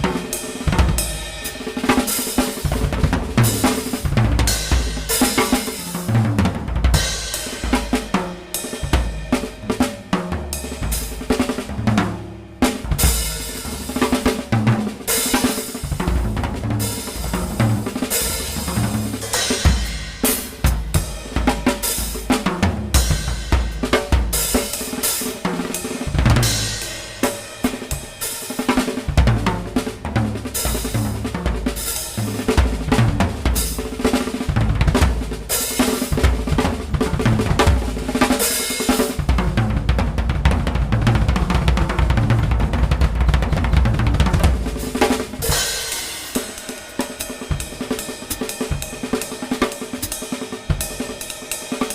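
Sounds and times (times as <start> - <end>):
drum kit playing: 0.0 - 51.9.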